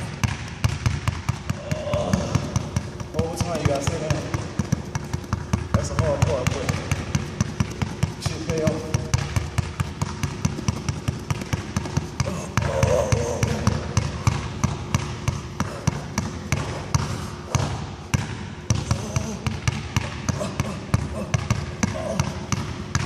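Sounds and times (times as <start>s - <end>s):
basketballs bouncing on hardwood floor: 0.0s - 23.0s.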